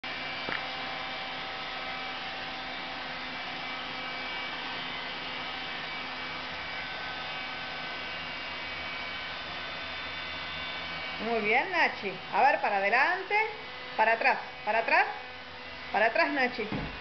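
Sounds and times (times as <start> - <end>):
vacuum cleaner motor whining: 0.1 - 17.0.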